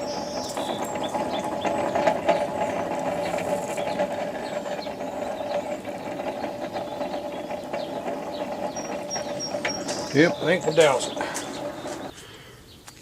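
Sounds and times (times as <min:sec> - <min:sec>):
forge blower whirring: 0:00.0 - 0:12.2.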